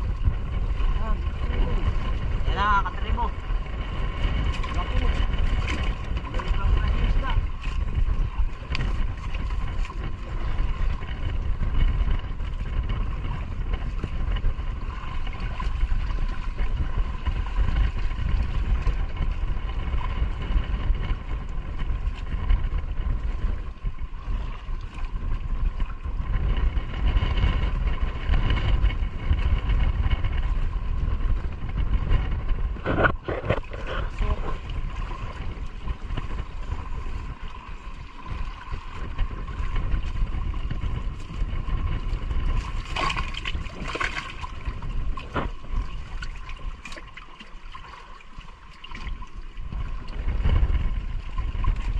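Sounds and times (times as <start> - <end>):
water noise: 0.0 - 51.9
wind: 0.0 - 51.9.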